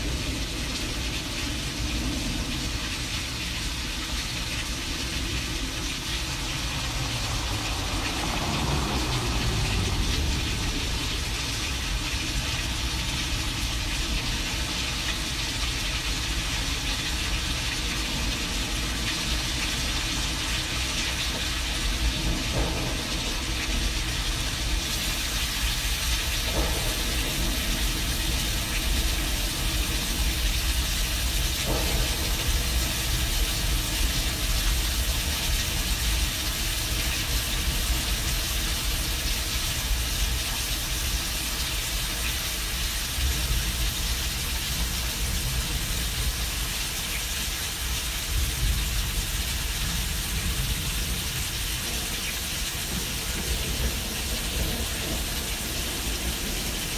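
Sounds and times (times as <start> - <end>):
continuous low rumble: 0.0 - 56.9
rain-like hiss: 0.0 - 56.9.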